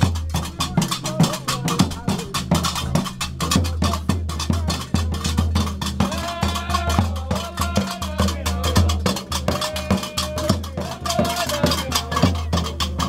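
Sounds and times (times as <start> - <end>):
deep drum beaten with stick: 0.0 - 13.0
men chanting: 0.0 - 13.0.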